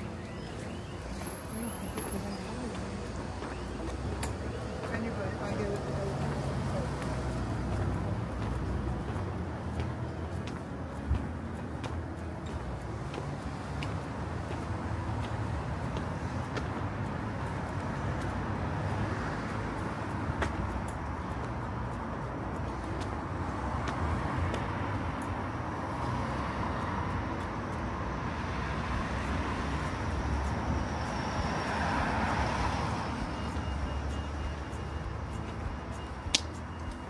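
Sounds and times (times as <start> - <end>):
cars passing: 0.0 - 37.0
road traffic hum: 0.0 - 37.0.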